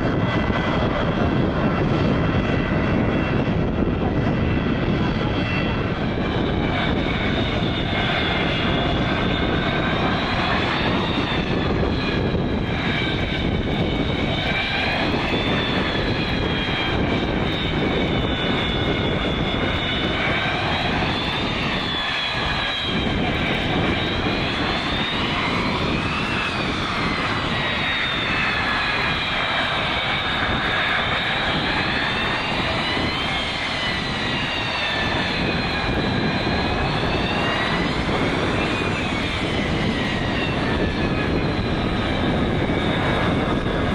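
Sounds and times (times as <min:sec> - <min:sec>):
jet engines rumbling with whine: 0:00.0 - 0:43.9.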